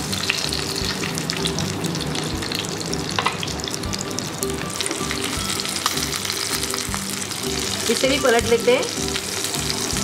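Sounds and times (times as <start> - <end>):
background music with steady beat: 0.0 - 10.0
fish frying in sizzling oil: 0.0 - 10.0.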